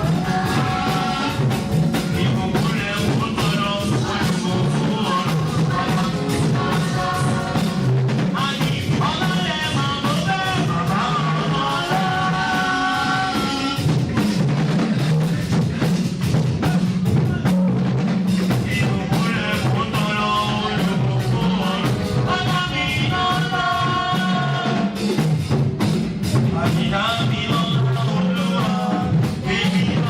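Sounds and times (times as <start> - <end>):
person singing: 0.0 - 14.0, 18.5 - 25.0, 26.4 - 30.0
drum kit and bass beat: 0.0 - 30.0.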